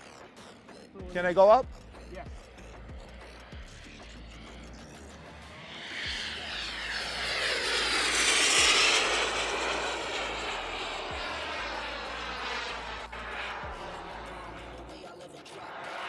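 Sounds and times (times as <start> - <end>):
jet engine passing: 2.3 - 16.0.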